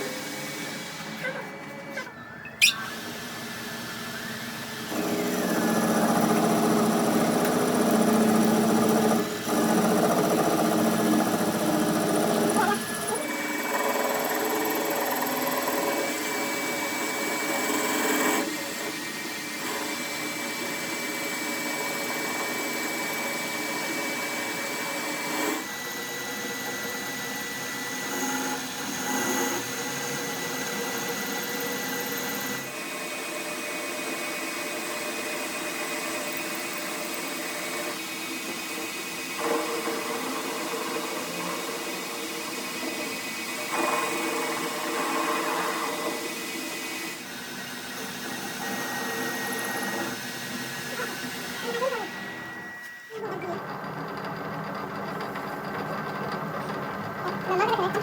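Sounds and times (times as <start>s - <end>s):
power tools whining: 0.0s - 58.0s.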